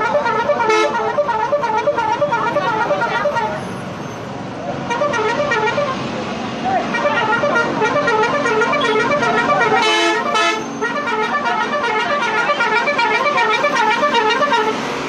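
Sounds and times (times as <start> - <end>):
musical horn warbling: 0.0 - 3.6, 4.9 - 6.0, 6.9 - 14.8
steady horn blast: 0.0 - 3.7, 4.9 - 6.1, 6.8 - 14.9.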